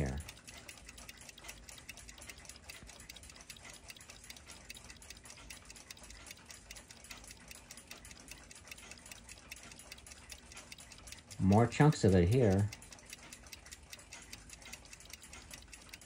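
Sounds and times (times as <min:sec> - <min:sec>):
mechanical clock ticking: 0:00.0 - 0:16.0.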